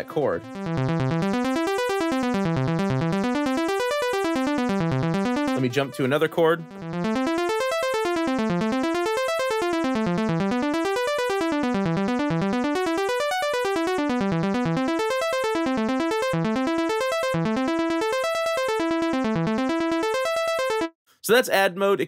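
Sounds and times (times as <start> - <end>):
fast arpeggiated synth notes: 0.0 - 20.9.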